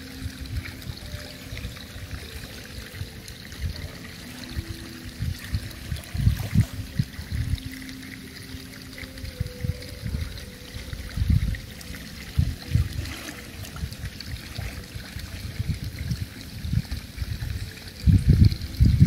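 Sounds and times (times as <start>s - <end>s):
pool water lapping: 0.0s - 19.0s.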